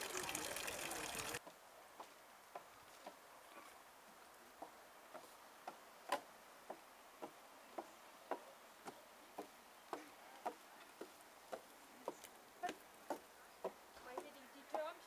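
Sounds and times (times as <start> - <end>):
footsteps on wooden planks: 1.4 - 3.2, 4.6 - 15.0.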